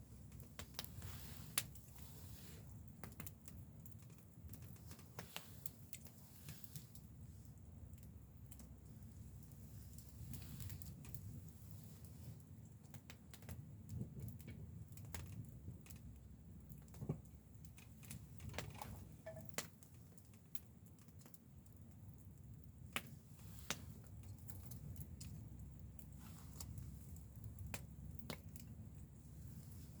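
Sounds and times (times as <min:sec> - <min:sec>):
faint irregular clicks and taps: 0:00.1 - 0:29.9.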